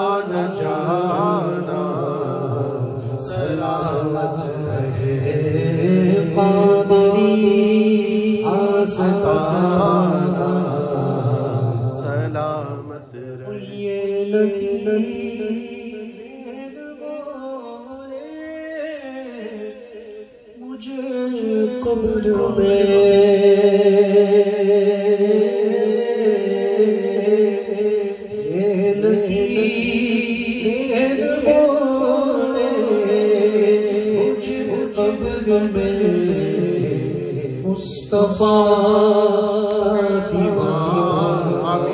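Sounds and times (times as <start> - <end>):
man singing: 0.0 - 41.9.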